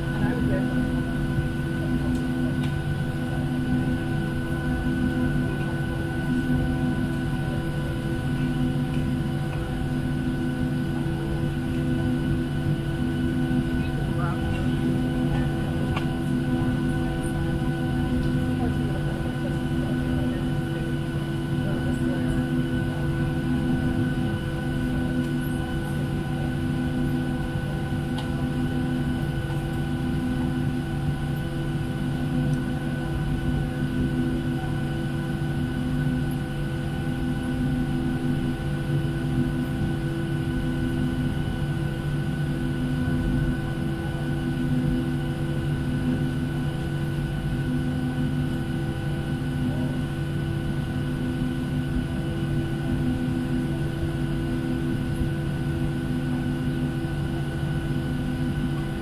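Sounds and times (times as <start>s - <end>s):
aircraft cabin hum: 0.0s - 59.0s.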